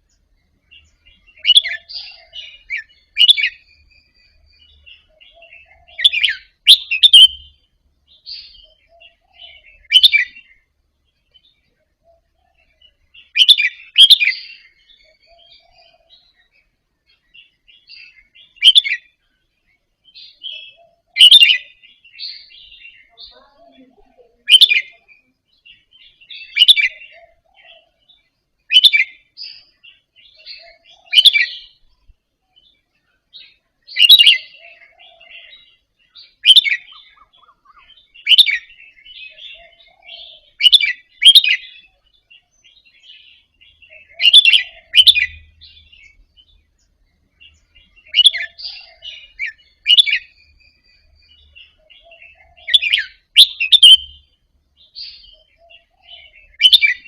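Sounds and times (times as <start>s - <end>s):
bird singing short phrases: 0.0s - 57.0s.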